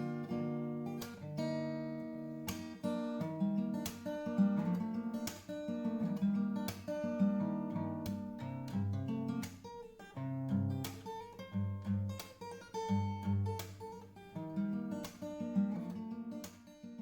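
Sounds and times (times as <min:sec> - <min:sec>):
acoustic guitar plucked and strummed: 0:00.0 - 0:17.0.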